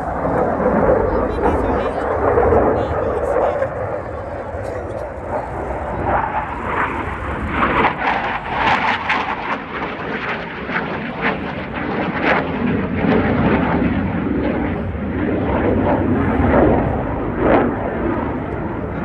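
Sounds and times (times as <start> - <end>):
fighter jet flying overhead: 0.0 - 19.0.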